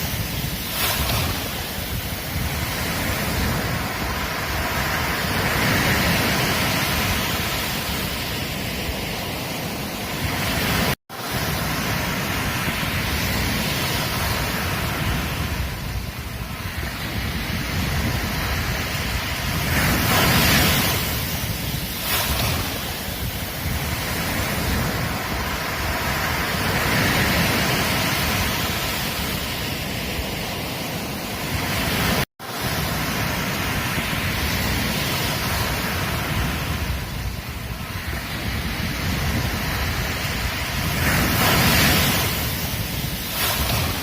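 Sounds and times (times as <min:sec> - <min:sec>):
surf washing on a beach: 0:00.0 - 0:44.0.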